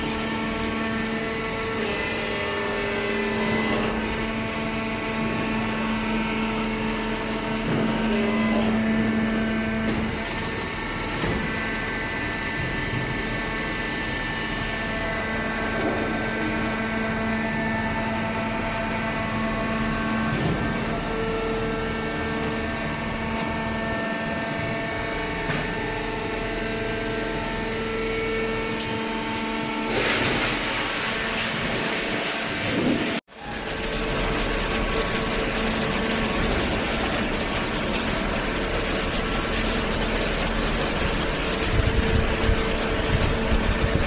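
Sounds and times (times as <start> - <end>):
paper baler humming: 0.0 - 44.0.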